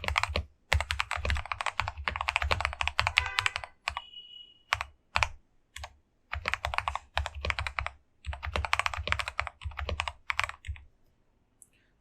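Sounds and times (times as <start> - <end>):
typing on mechanical keyboard: 0.0 - 4.0, 4.7 - 10.9.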